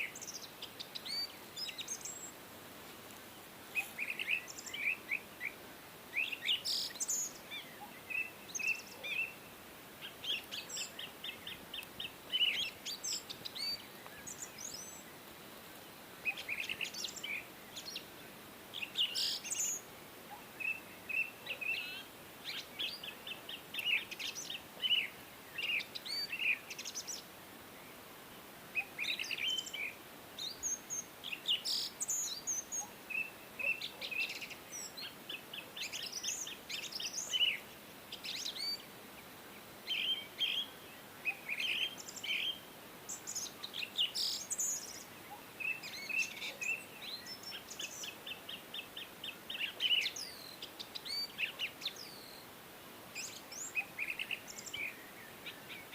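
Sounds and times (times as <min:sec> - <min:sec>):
faint steady hiss: 0:00.0 - 0:55.9
songbirds chirping and trilling: 0:00.0 - 0:55.9.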